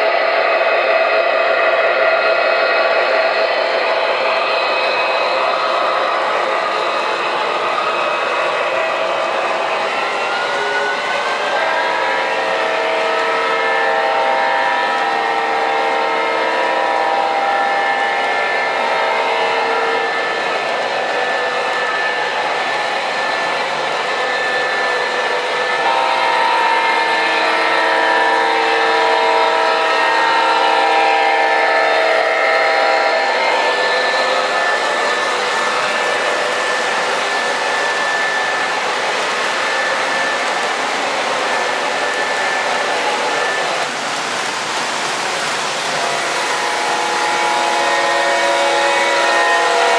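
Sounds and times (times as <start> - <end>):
model diesel locomotive rumble: 0.0 - 49.9
multi-tone air horn: 4.4 - 43.9, 45.8 - 49.9.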